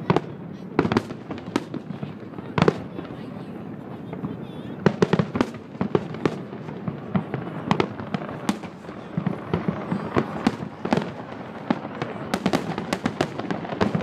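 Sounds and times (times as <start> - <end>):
distant fireworks bangs: 0.0 - 14.0.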